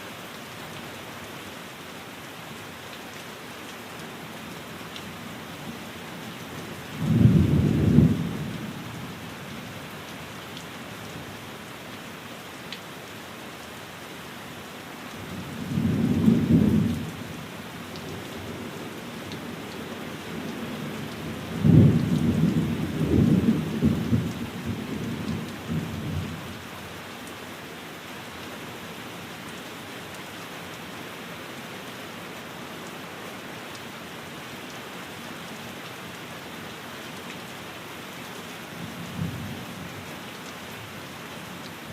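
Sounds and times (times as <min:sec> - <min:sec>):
rain on a window: 0:00.0 - 0:41.9.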